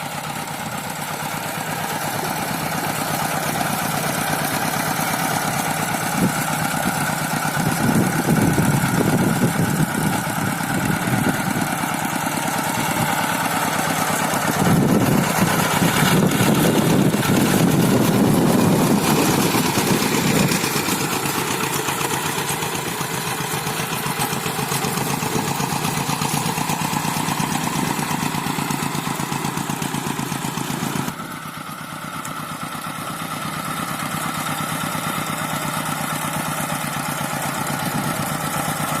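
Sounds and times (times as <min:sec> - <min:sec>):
tractor engine chugging: 0:00.0 - 0:39.0.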